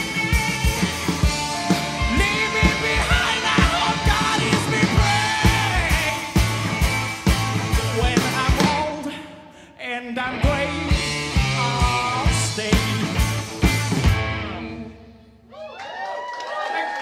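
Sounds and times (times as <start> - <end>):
live rock band playing: 0.0 - 9.1, 10.2 - 15.0.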